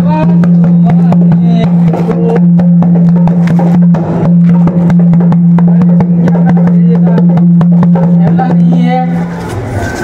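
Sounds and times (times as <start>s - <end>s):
hand drum strokes: 0.0s - 10.0s.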